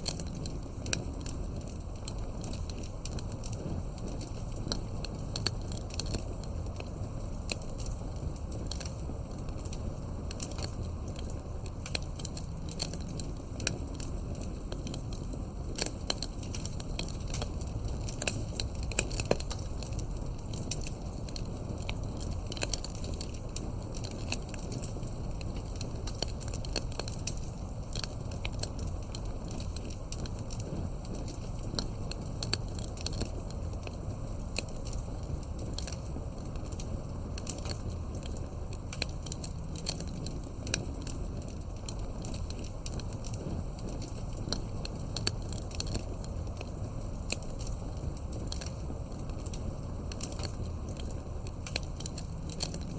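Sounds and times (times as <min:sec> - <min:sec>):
campfire crackling and popping: 0:00.0 - 0:52.9
low fire burning: 0:00.0 - 0:52.9.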